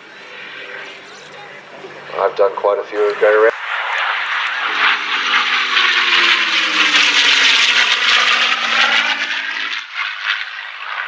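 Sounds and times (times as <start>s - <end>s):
propeller aircraft flying past: 0.0s - 11.0s.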